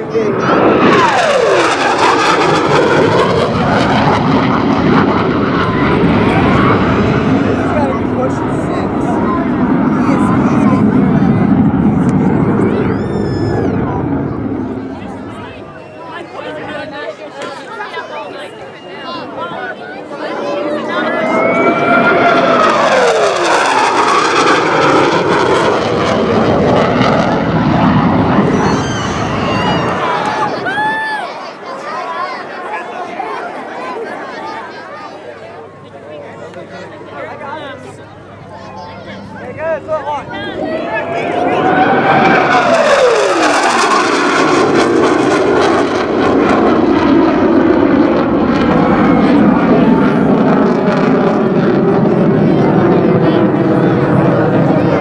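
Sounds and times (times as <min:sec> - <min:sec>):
jet engines roaring on pass: 0:00.0 - 0:55.0.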